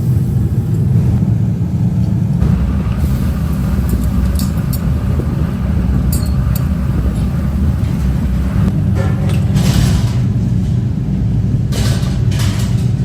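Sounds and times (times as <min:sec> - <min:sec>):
factory machinery rumble: 0:00.0 - 0:13.0.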